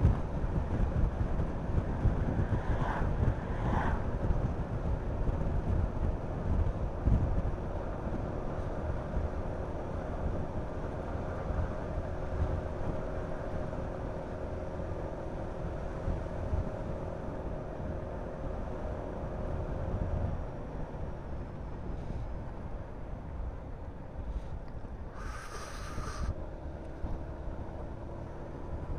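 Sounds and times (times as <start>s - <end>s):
wind rush on microphone: 0.0s - 27.6s.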